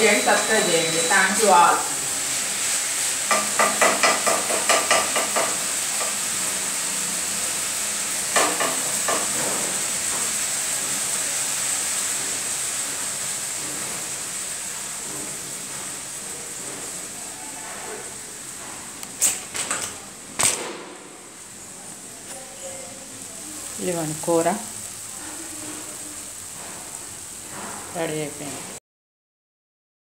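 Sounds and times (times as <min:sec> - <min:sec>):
curry sizzling: 0:00.0 - 0:28.8.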